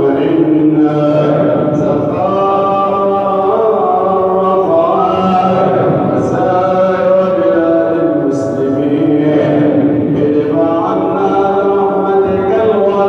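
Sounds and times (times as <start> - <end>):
person chanting melodically: 0.0 - 13.0.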